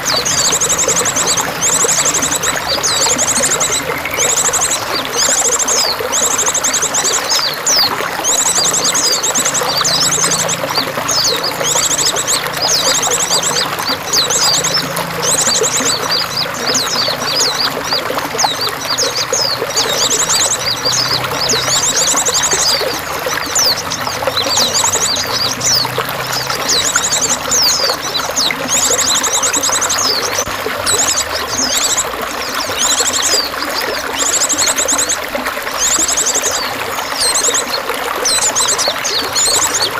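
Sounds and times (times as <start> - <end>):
running water: 0.0 - 39.9
songbirds chirping: 0.0 - 39.9.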